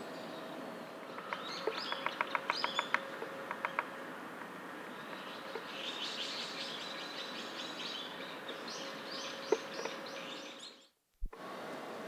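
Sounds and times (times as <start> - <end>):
outdoor ambience: 0.0 - 12.0.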